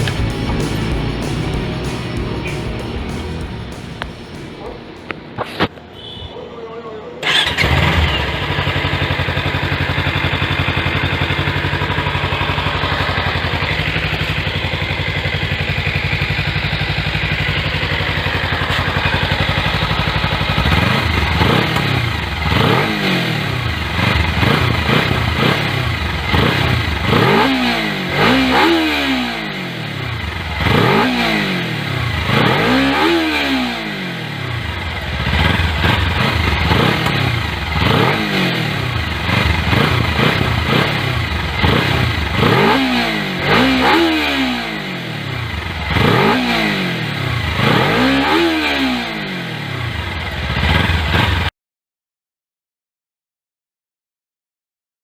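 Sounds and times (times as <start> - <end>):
motorcycle engine idling and revving: 0.0 - 6.2, 7.2 - 51.5.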